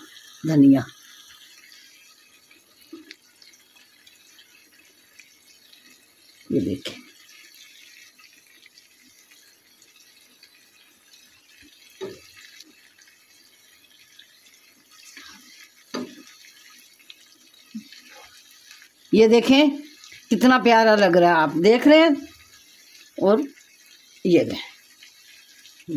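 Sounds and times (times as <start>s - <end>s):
food sizzling in a wok: 0.0s - 25.9s.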